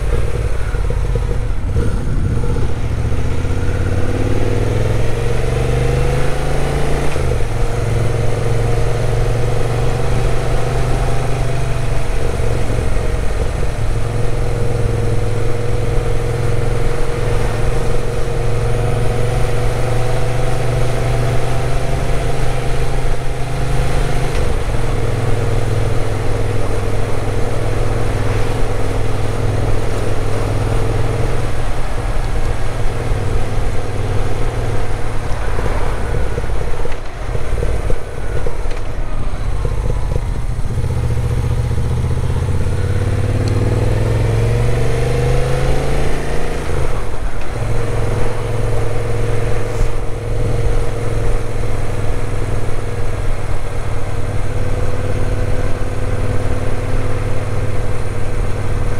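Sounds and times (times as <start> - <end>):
motorcycle engine while riding: 0.0 - 58.9.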